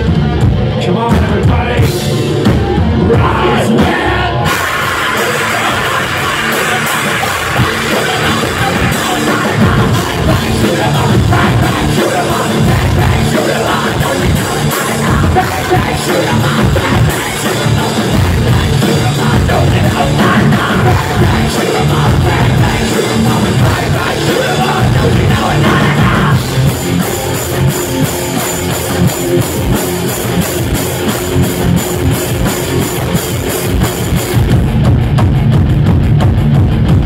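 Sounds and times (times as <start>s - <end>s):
heavy metal band playing: 0.0s - 37.0s.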